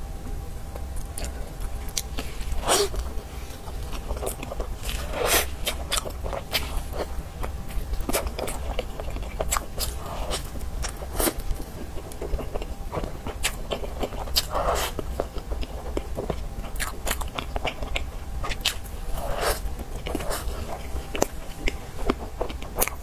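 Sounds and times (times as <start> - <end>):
person chewing pastry: 0.7 - 23.0.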